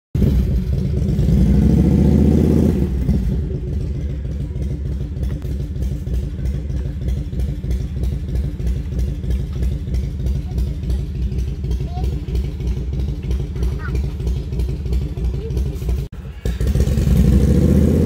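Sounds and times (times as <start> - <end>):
engine revving: 0.2 - 18.0.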